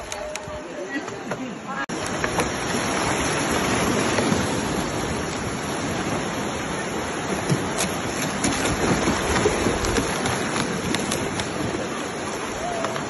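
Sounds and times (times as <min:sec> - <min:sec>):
river water rushing and splashing: 0:00.0 - 0:13.0.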